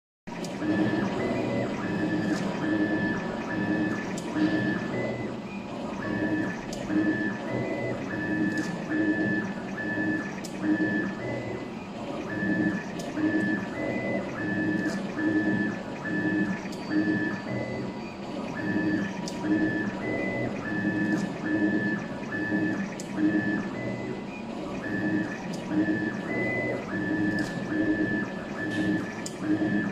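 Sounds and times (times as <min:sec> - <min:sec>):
sharp machine clicks: 0:00.3 - 0:05.1, 0:05.9 - 0:11.4, 0:12.2 - 0:23.8, 0:24.7 - 0:29.9
motors whining in pulses: 0:00.3 - 0:29.9.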